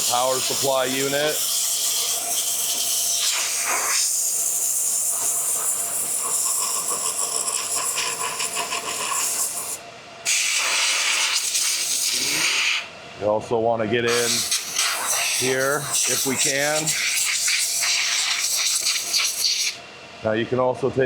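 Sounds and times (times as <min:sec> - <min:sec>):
compressed air hissing: 0:00.0 - 0:12.9, 0:14.1 - 0:19.8.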